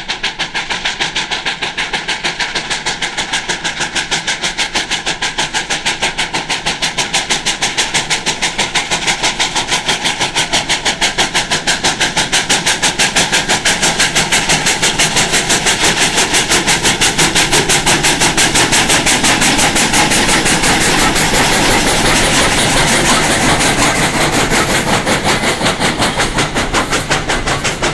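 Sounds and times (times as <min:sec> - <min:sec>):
steam locomotive exhaust chuffing: 0:00.0 - 0:27.9.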